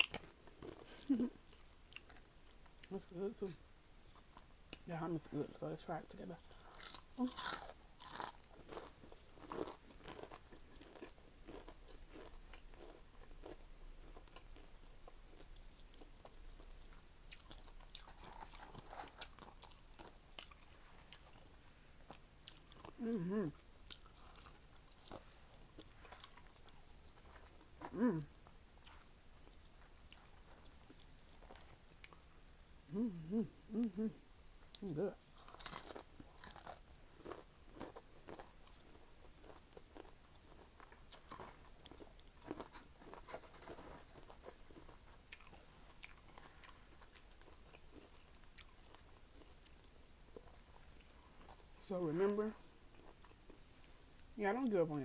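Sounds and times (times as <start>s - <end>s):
chewing crisp food: 0.0s - 3.0s, 6.5s - 54.4s.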